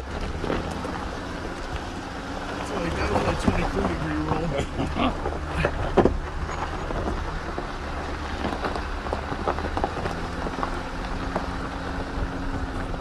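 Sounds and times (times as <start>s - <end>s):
gravel crunching under tyres: 0.0s - 13.0s
vehicle engine humming: 0.0s - 13.0s.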